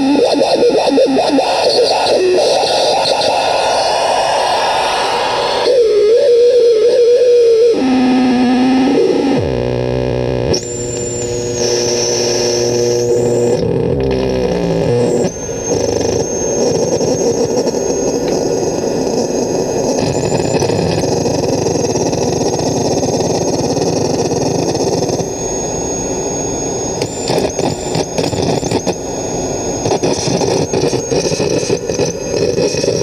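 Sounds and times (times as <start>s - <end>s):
noise synth buzzing tones: 0.0s - 33.0s.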